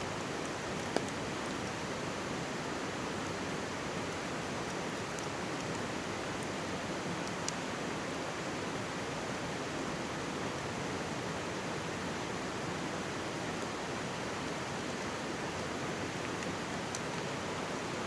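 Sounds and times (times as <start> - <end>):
stream rushing over rocks: 0.0 - 18.0
campfire crackle: 0.1 - 8.5, 11.4 - 18.0.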